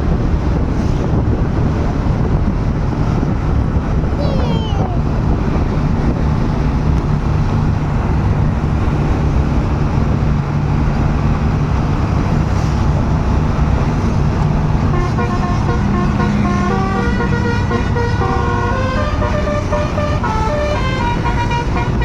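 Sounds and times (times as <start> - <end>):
highway traffic drone: 0.0 - 22.0.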